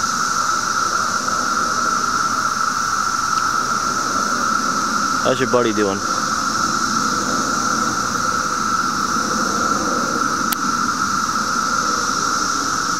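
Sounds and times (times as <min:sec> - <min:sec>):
cicadas droning: 0:00.0 - 0:12.9.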